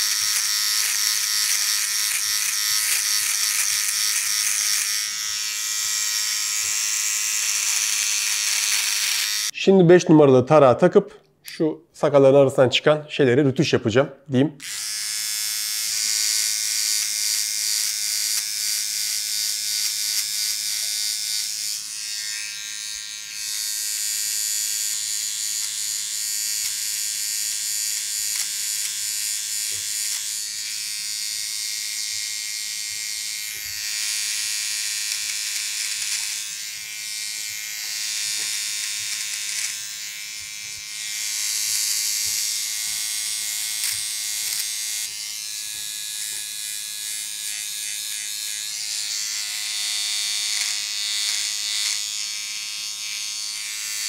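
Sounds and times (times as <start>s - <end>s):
blade hissing through hair: 0.0s - 9.5s, 14.7s - 54.0s
electric trimmer buzzing: 0.0s - 9.6s, 14.6s - 54.0s.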